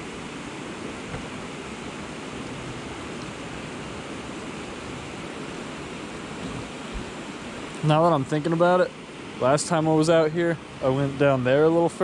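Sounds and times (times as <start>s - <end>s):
rush of flowing water: 0.0s - 12.0s.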